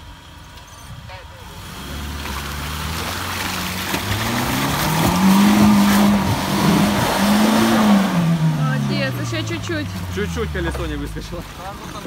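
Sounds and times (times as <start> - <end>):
off-road vehicle engine revving: 1.1 - 12.0.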